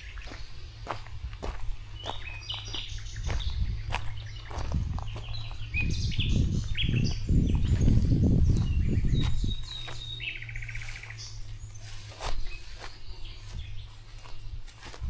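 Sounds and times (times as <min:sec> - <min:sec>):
low rumbling noise: 0:00.0 - 0:14.7
small birds chirping: 0:00.0 - 0:15.0.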